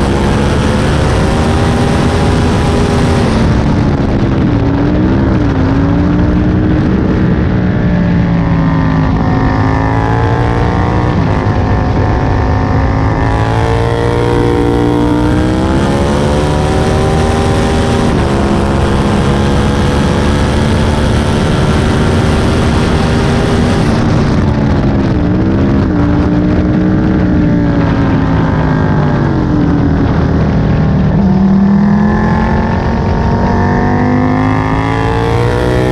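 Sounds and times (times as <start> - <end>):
motorcycle engine accelerating: 0.0 - 35.9
wind rush: 0.0 - 35.9.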